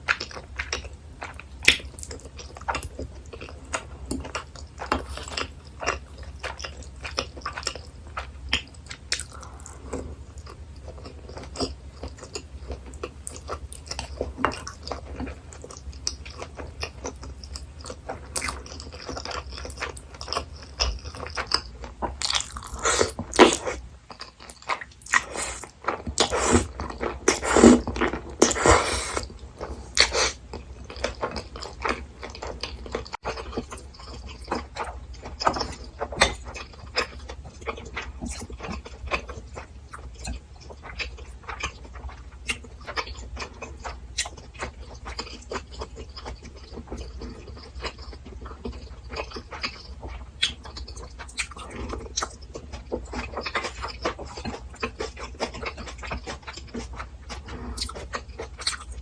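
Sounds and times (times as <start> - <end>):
chewing and biting: 0.0 - 59.0.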